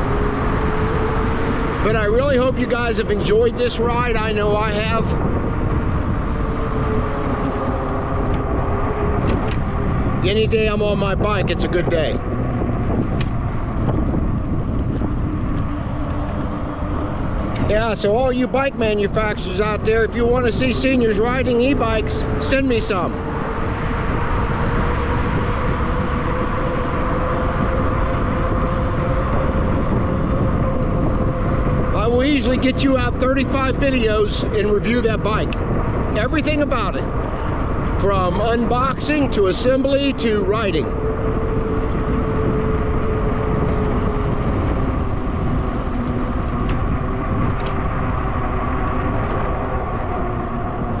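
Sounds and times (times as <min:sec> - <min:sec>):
fat tires rolling on pavement: 0:00.0 - 0:51.0
wind on microphone: 0:00.0 - 0:51.0.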